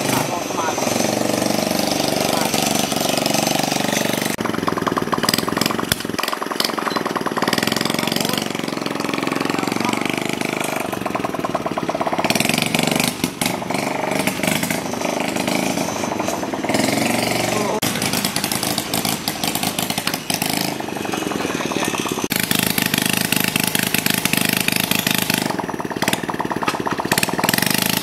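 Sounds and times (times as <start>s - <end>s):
small engine pulsing: 0.0s - 28.0s.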